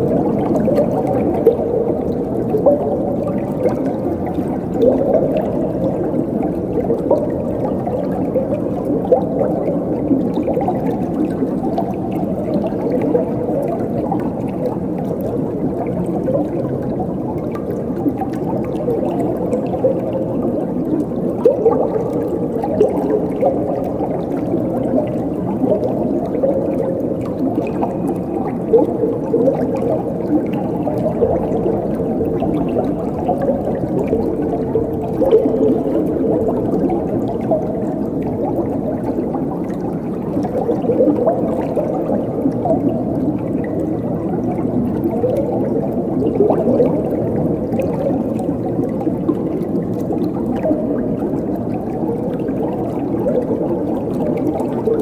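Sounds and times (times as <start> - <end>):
water gurgling: 0.0 - 55.0.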